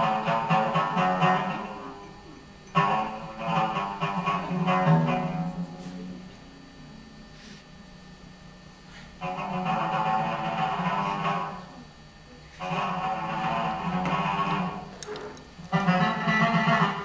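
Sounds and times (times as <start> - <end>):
plucked string instrument: 0.0 - 7.0, 9.2 - 11.9, 12.6 - 17.0.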